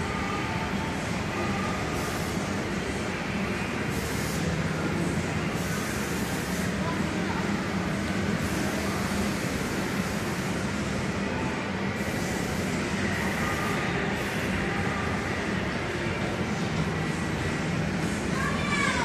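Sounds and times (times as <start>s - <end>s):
ride mechanical hum: 0.0s - 19.0s.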